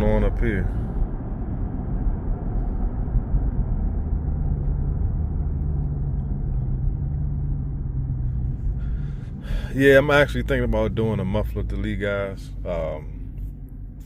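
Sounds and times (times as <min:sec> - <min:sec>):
car exhaust humming at cruise: 0:00.0 - 0:14.0
road noise: 0:00.0 - 0:14.0.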